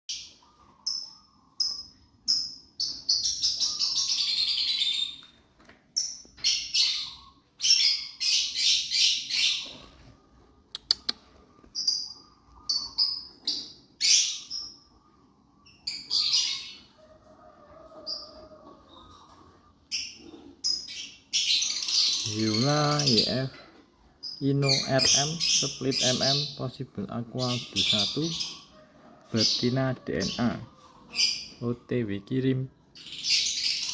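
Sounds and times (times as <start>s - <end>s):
lovebirds chirping and chattering: 0.1s - 33.9s.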